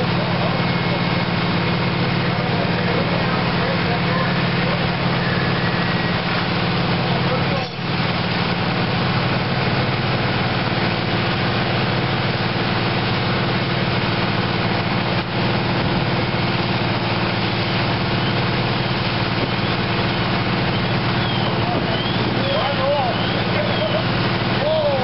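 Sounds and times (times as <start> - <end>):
fire engine engine running: 0.0 - 25.0.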